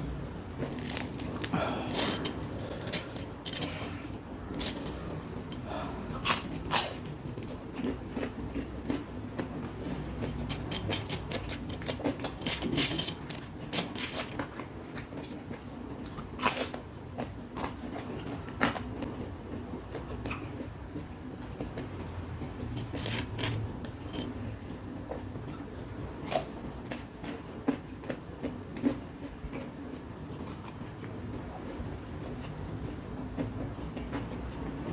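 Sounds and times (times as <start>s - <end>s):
crunchy snacks being chewed: 0.6s - 20.7s, 22.5s - 25.6s, 26.2s - 34.8s.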